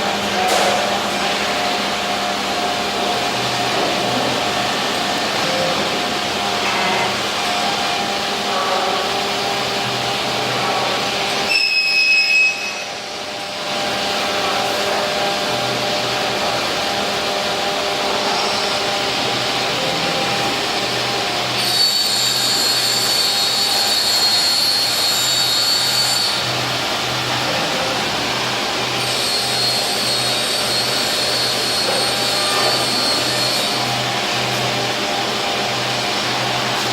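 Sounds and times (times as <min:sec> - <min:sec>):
high-pitched machine whine: 0:00.0 - 0:36.9
machine hiss and hum: 0:00.0 - 0:36.9.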